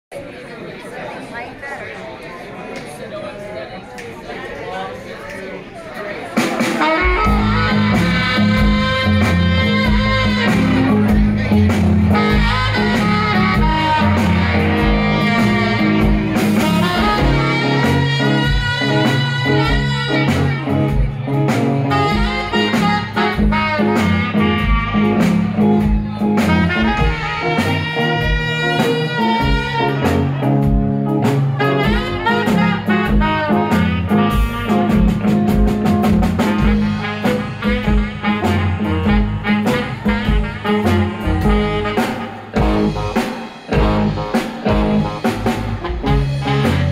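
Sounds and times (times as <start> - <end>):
drum kit beat: 6.3 - 46.9
electric guitar: 6.6 - 46.9
saxophone melody: 6.6 - 46.9
bass guitar: 6.8 - 46.9.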